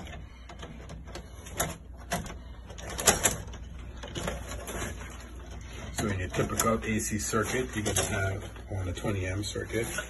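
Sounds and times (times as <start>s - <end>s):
handling clicks and knocks: 0.0s - 8.7s.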